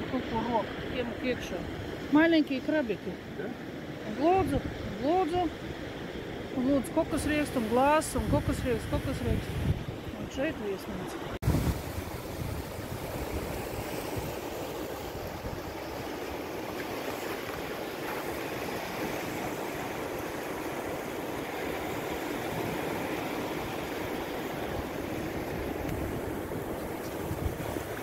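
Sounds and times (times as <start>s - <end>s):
sea surf washing ashore: 0.0s - 28.0s.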